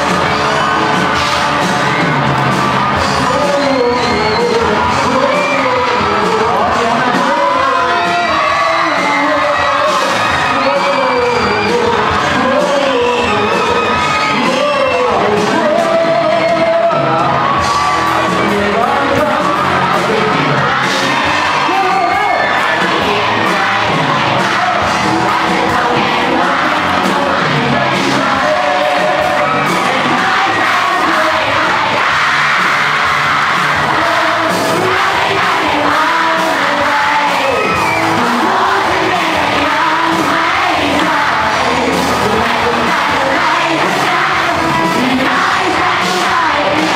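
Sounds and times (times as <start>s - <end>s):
bass guitar: 0.0s - 46.9s
drum kit: 0.0s - 46.9s
man singing: 2.9s - 46.9s.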